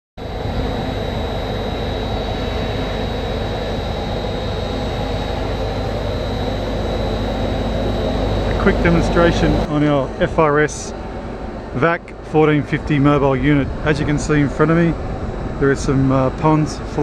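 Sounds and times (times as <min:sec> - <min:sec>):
processing plant mechanical drone: 0:00.2 - 0:17.0
thin high whine: 0:00.2 - 0:17.0.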